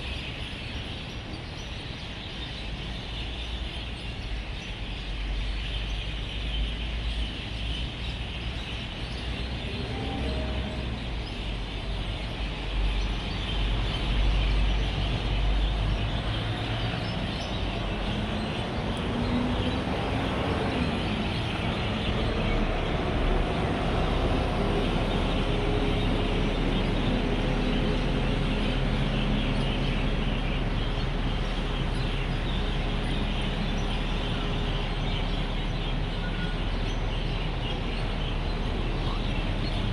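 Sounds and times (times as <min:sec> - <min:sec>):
many birds chirping: 0:00.0 - 0:39.9
road traffic rumble: 0:00.0 - 0:39.9.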